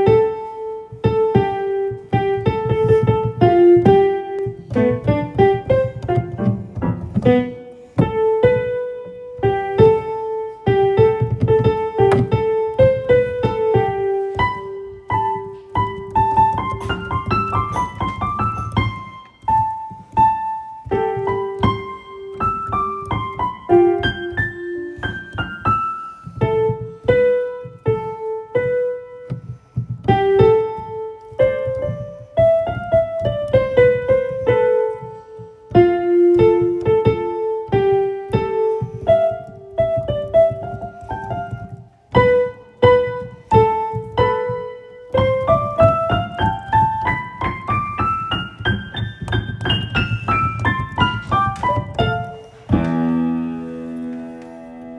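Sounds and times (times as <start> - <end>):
solo piano music: 0.0 - 54.9.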